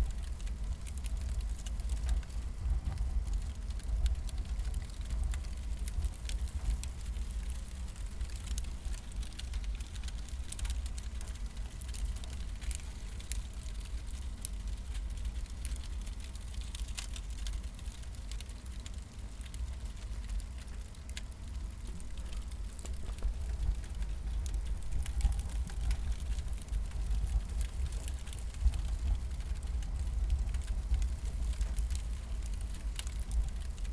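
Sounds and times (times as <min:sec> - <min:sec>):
low fire rumble: 0:00.0 - 0:33.9
wood fire crackling and popping: 0:00.0 - 0:33.9.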